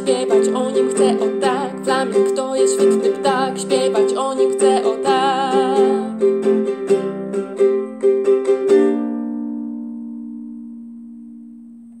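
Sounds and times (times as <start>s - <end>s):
guitalele strumming: 0.0s - 12.0s.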